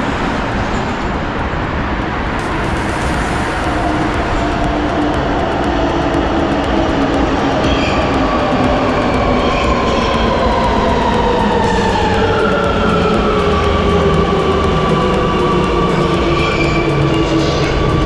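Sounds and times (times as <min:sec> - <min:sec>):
train rolling noise: 0:00.0 - 0:18.0
train motor whine rising: 0:02.4 - 0:18.0.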